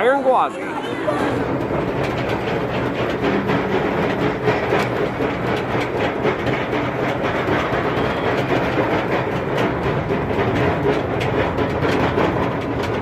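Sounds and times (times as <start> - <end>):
roller coaster rumbling on track: 0.0 - 13.0
wheel and track clatter: 0.0 - 13.0.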